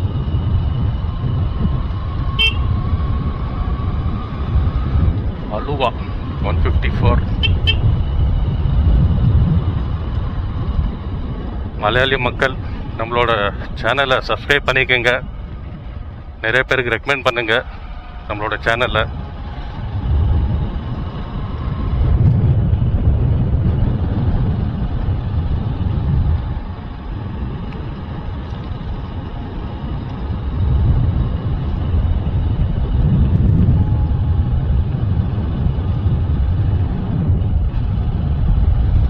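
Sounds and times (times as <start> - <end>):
vehicle noise: 0.0 - 39.0
wind rumbling on microphone: 0.0 - 39.0.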